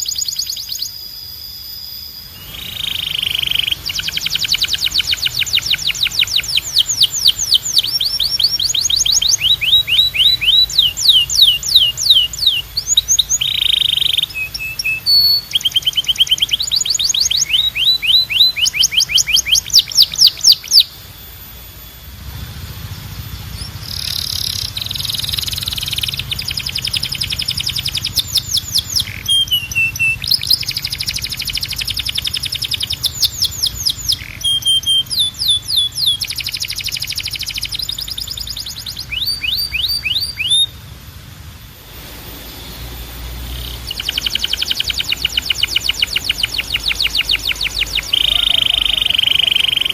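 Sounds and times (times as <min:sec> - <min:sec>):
canary singing trills: 0:00.0 - 0:41.0, 0:41.9 - 0:49.9.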